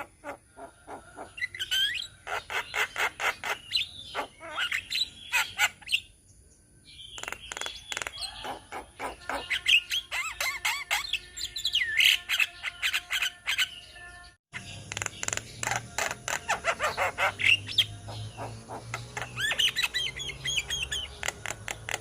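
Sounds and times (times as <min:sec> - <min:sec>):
mynas calling and chattering: 0:00.0 - 0:06.1, 0:07.2 - 0:13.8, 0:14.6 - 0:22.0.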